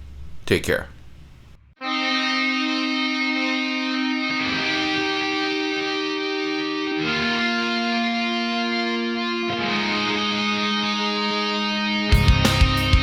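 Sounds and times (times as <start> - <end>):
distorted electric guitar chords: 1.8 - 13.0.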